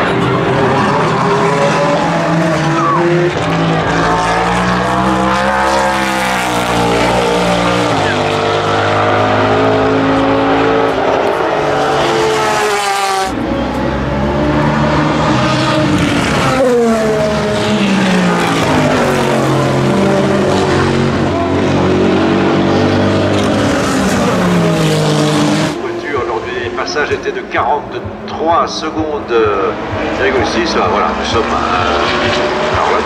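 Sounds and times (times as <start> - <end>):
race car engine passing: 0.0 - 33.0.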